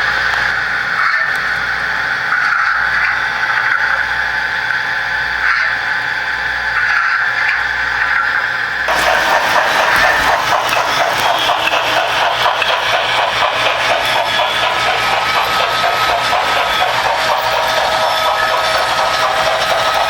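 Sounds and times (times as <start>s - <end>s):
model train whine: 0.0s - 20.0s.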